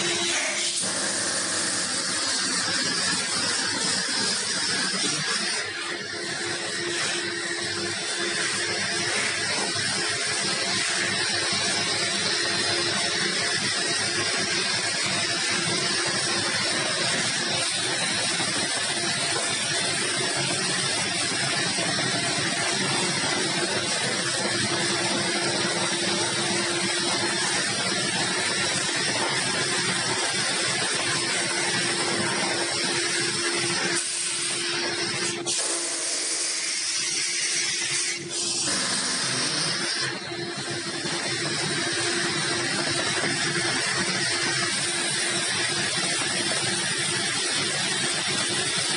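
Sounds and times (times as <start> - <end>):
coating machine rollers hissing: 0.0 - 48.9.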